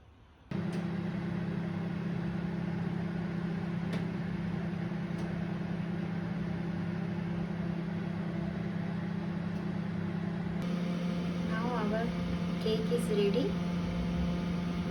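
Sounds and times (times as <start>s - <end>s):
oven electrical hum: 0.5s - 14.9s.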